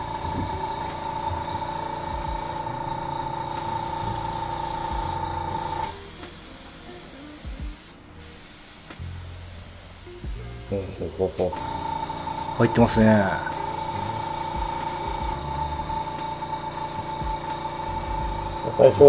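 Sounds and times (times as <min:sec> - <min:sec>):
airbrush spraying hiss: 0:00.0 - 0:19.0.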